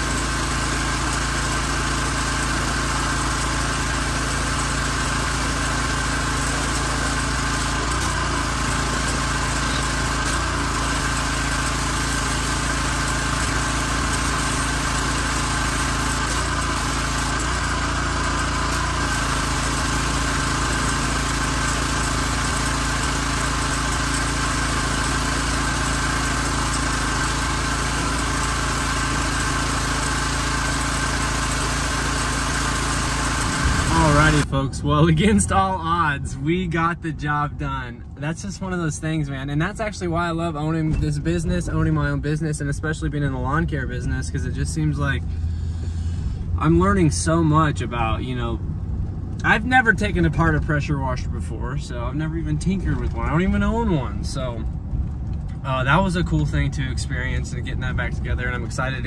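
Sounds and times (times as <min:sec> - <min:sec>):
pressure washer engine running: 0:00.0 - 0:36.2, 0:39.0 - 0:48.6, 0:49.4 - 0:54.8, 0:55.4 - 0:59.0.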